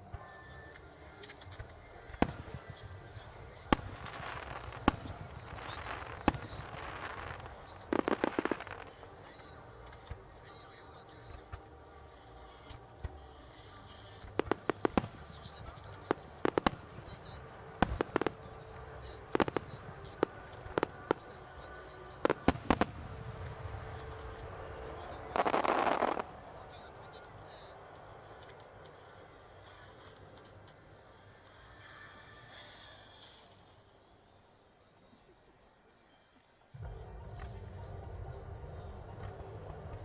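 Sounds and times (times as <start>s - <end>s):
faint firework crackling: 0.0s - 35.2s.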